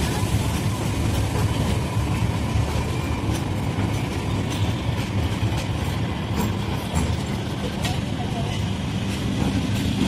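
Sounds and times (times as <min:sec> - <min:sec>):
electric train rumbling past: 0:00.0 - 0:10.0.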